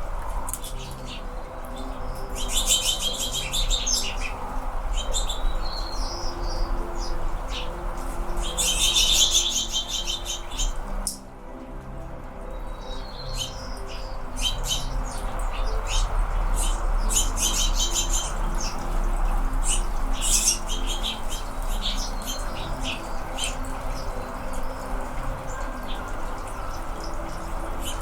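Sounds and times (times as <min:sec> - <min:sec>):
hummingbird chip calls: 0:00.0 - 0:11.3, 0:12.7 - 0:28.0.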